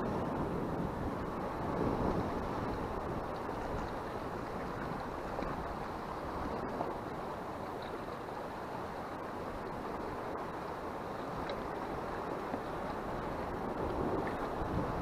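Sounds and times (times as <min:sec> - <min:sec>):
sea surf on rocky shore: 0:00.0 - 0:15.0
wind: 0:00.0 - 0:15.0.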